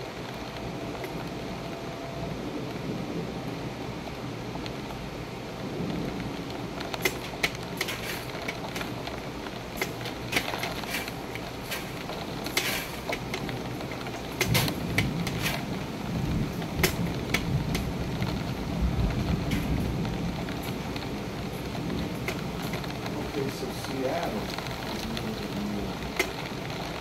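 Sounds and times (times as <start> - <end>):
rain falling: 0.0 - 27.0
raindrops tapping: 0.0 - 27.0
thunder rumble: 0.0 - 27.0.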